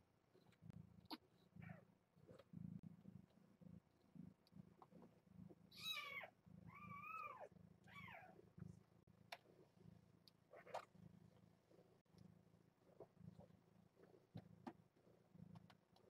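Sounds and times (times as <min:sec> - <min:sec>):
faint low purring: 0:00.3 - 0:16.0.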